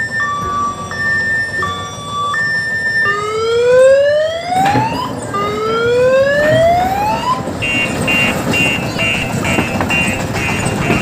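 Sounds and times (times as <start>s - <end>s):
high pulsing tone: 0.0s - 10.9s
electronic siren wailing: 0.0s - 11.0s.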